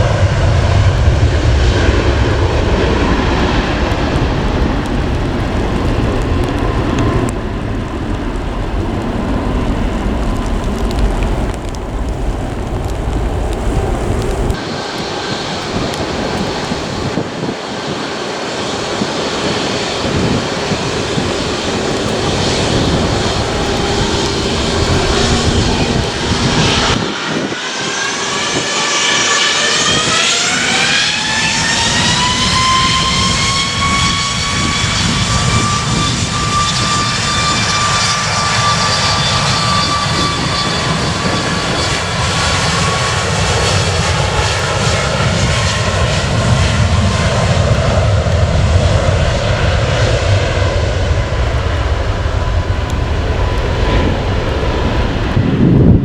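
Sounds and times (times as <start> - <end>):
jet engine whine spooling up: 0.0 - 56.0
jet engines roaring: 0.0 - 56.0.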